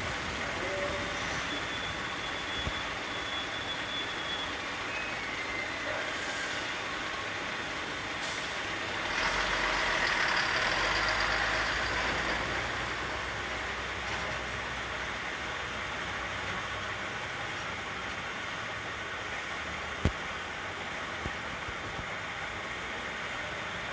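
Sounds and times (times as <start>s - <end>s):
truck engine and road noise: 0.0s - 23.9s.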